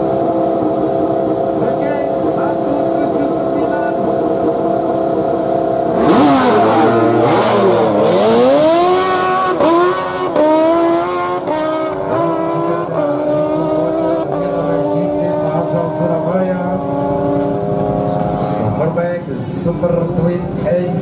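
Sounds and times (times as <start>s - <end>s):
motorbikes accelerating: 0.0s - 21.0s.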